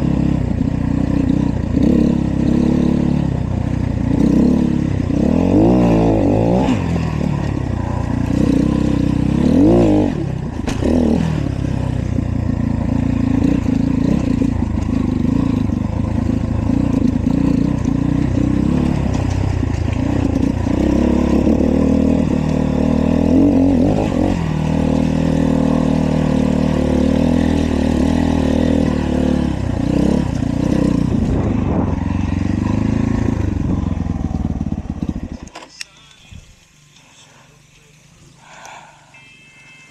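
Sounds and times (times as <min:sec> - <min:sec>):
dirt bike engine revving: 0:00.0 - 0:35.5.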